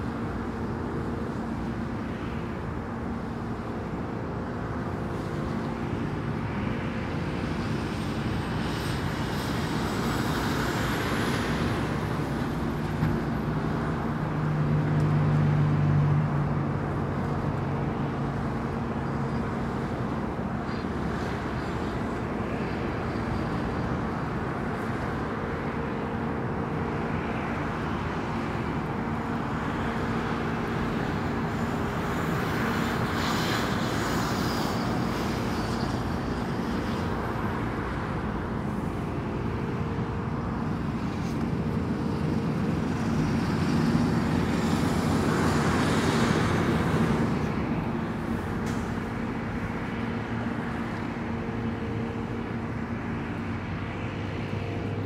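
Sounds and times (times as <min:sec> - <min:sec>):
steady highway traffic: 0:00.0 - 0:55.0.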